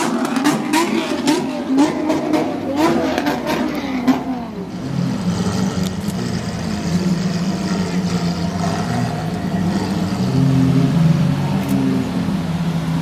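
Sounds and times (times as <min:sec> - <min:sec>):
car engines with loud exhausts: 0:00.0 - 0:13.0.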